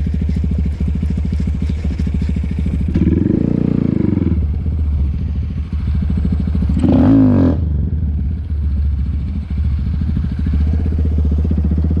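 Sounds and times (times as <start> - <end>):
engine rev: 0.0 - 12.0
motorcycle engine running: 0.0 - 12.0.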